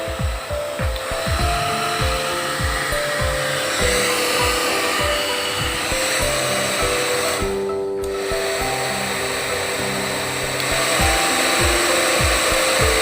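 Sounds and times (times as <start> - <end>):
background music with steady beat: 0.0 - 13.0
hair dryer blowing: 0.0 - 13.0.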